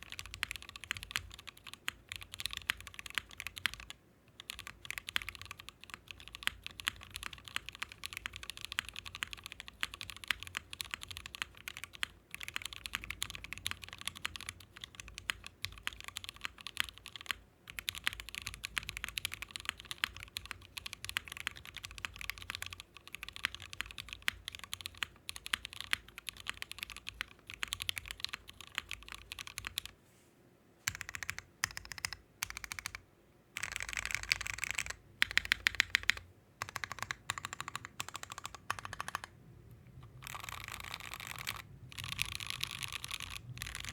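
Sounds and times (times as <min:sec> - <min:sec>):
mechanical keyboard typing: 0:00.0 - 0:29.9, 0:30.9 - 0:33.0, 0:33.6 - 0:39.4, 0:40.0 - 0:43.9.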